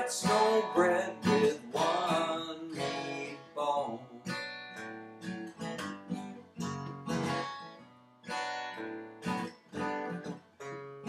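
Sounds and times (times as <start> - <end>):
acoustic guitar chords strummed: 0.0 - 11.0.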